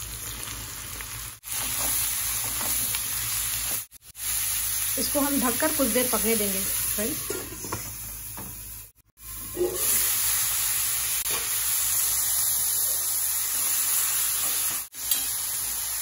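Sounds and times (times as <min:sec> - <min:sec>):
mushrooms and onion sizzling in oil: 0:00.0 - 0:16.0.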